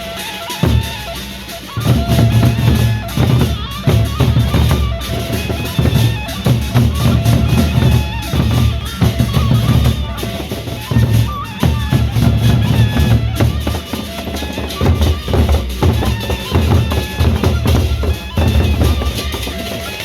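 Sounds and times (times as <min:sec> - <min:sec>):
heavy drum beats: 0:00.0 - 0:20.0.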